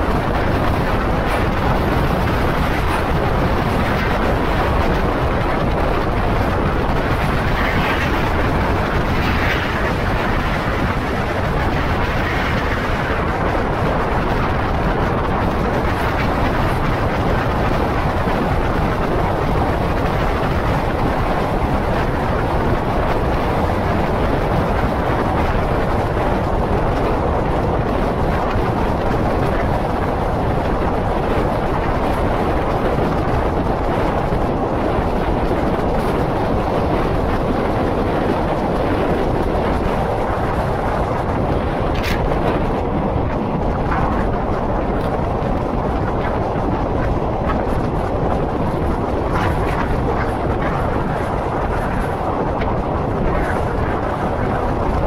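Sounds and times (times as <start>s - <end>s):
train wheels rushing on rail: 0.0s - 55.0s.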